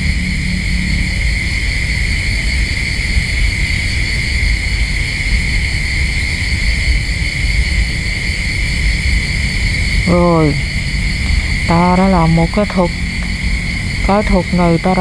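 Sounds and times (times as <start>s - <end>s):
high-pitched insect chorus: 0.0s - 15.0s
steady low rumble: 0.0s - 15.0s.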